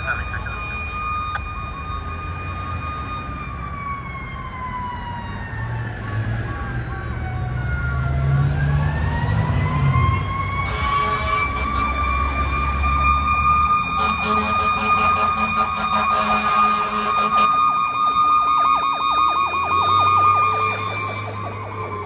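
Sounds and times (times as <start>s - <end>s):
fire engine siren wailing: 0.0s - 22.0s
warbling siren: 0.0s - 22.0s.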